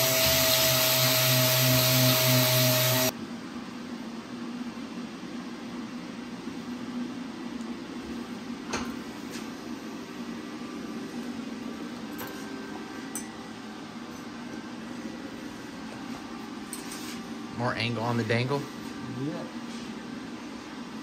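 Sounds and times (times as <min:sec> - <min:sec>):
fan humming: 0:00.0 - 0:03.4, 0:07.4 - 0:21.0.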